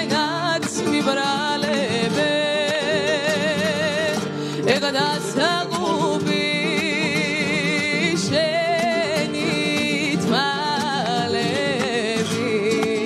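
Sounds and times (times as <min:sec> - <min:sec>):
instrumental backing: 0:00.0 - 0:13.0
woman singing with vibrato: 0:00.0 - 0:13.0.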